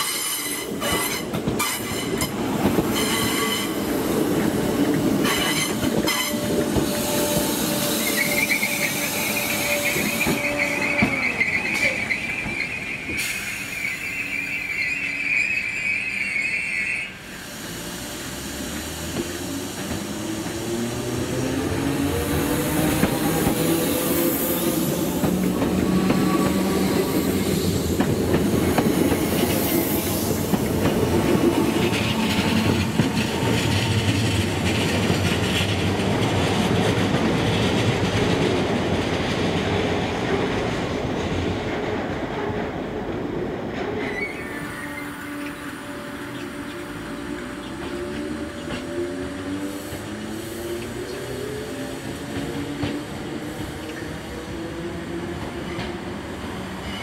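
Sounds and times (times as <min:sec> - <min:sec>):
high train squeal: 0:00.0 - 0:38.4, 0:43.9 - 0:57.0
train wheels on rails: 0:00.0 - 0:57.0.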